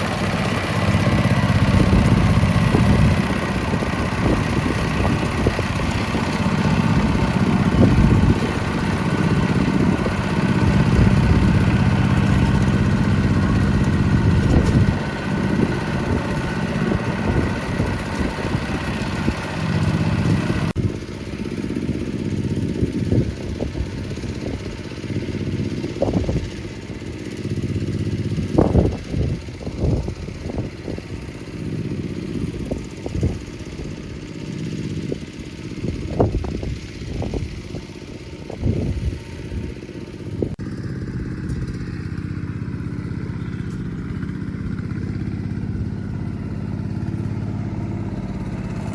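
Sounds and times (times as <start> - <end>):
tiller engine running: 0.0 - 48.9.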